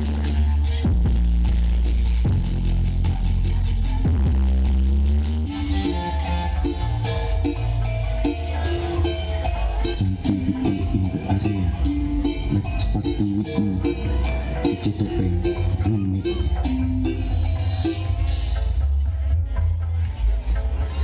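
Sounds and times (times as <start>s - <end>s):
loud music with heavy bass: 0.0s - 21.0s.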